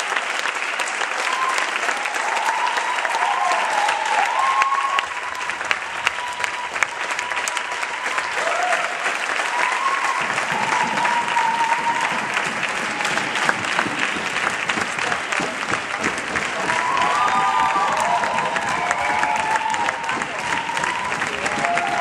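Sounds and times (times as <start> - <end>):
audience clapping: 0.0 - 22.0
voices cheering: 1.1 - 22.0.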